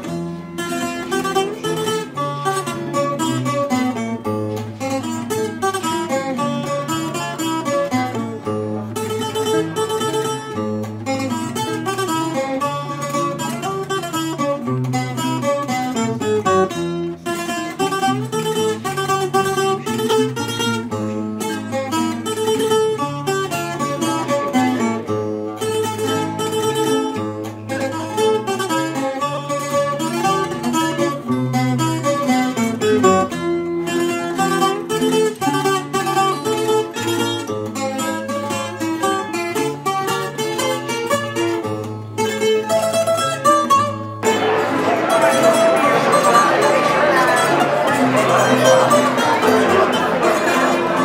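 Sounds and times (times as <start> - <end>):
plucked and strummed string music: 0.0 - 51.0.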